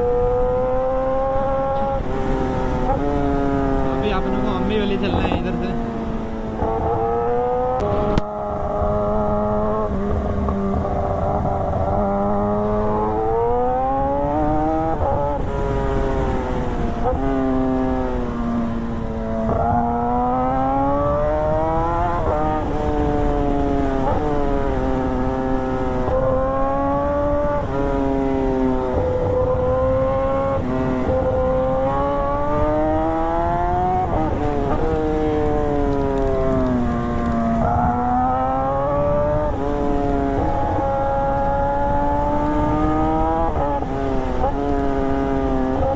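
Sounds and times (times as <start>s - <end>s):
vehicle engine revving: 0.0s - 45.9s.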